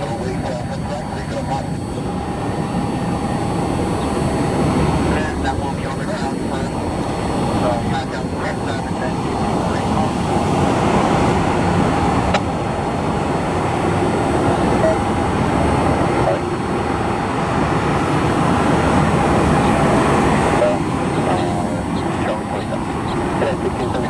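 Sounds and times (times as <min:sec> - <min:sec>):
jet airliner engine rumble: 0:00.0 - 0:24.0.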